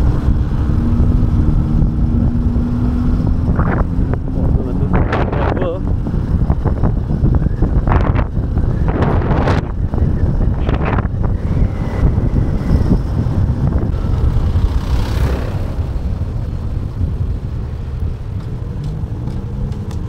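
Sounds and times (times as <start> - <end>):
motorcycle engine: 0.0 - 20.0
wind rumble on microphone: 0.0 - 20.0.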